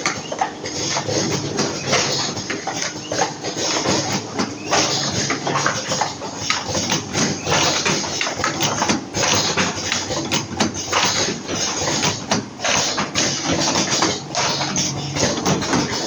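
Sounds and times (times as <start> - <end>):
cartoning machine clattering: 0.0 - 16.0.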